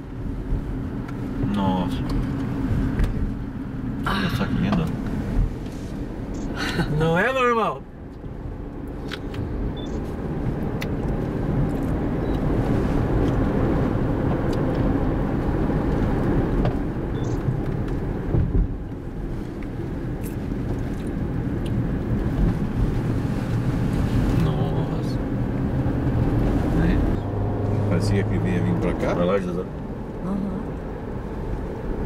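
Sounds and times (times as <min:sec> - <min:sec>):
car engine rumble: 0:00.0 - 0:32.0
tyres on asphalt: 0:00.0 - 0:32.0.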